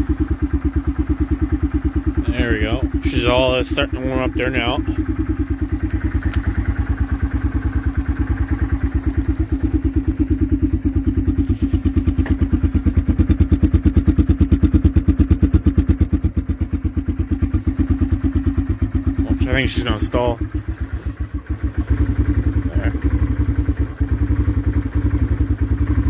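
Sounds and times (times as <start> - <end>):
atv engine idling: 0.0 - 26.0.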